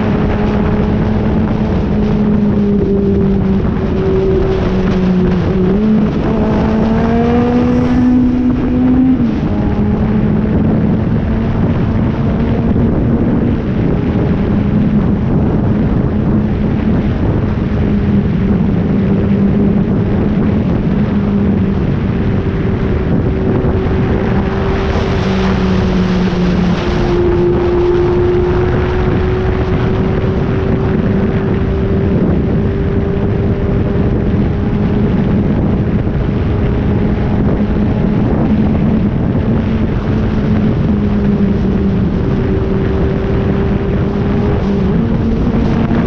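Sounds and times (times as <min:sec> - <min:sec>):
motorcycle engine cruising: 0:00.0 - 0:46.0
wind noise on microphone: 0:00.0 - 0:46.0.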